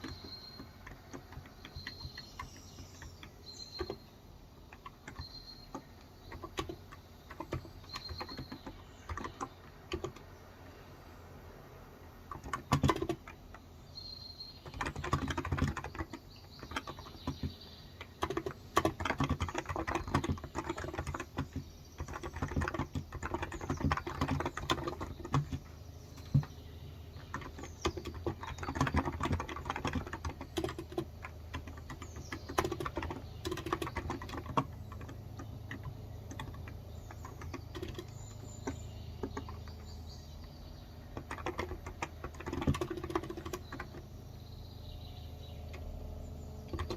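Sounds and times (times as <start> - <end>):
birds chirping faintly: 0.0 - 46.9.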